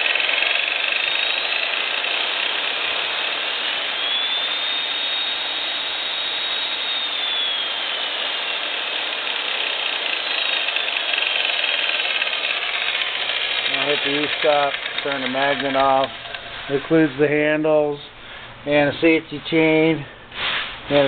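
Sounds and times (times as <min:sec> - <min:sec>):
drill press motor whirring: 0:00.0 - 0:17.2
high motor whine: 0:00.0 - 0:21.0.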